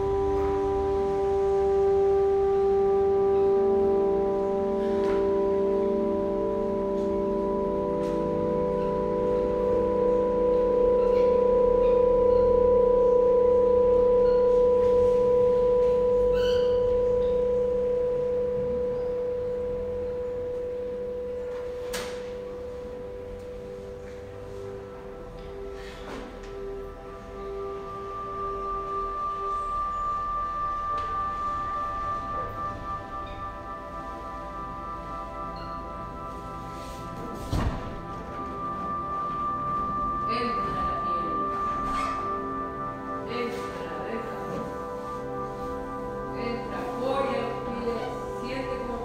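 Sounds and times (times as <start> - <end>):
ringing tone drone: 0.0 - 49.0.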